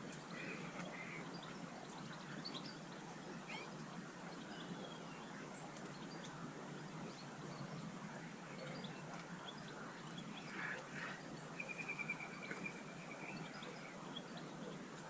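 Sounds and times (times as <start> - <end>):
outdoor background hiss: 0.0 - 15.0
small songbirds chirping: 0.0 - 15.0.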